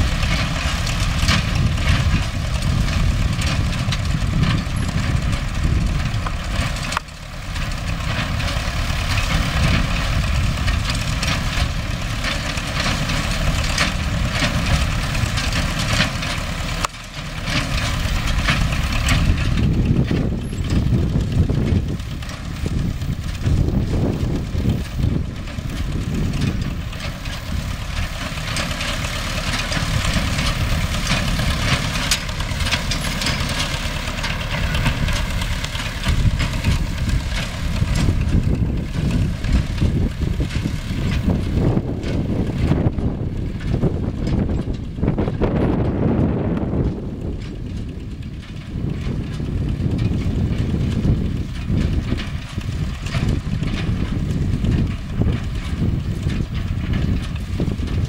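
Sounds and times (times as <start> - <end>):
hay baler clatter: 0.0 - 58.0
tractor diesel engine running: 0.0 - 58.0.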